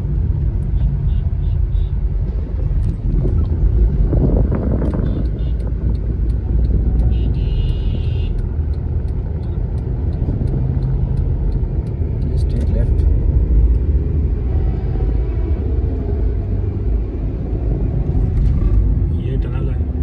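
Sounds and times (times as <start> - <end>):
car engine: 0.0 - 20.0
road rumble: 0.0 - 20.0.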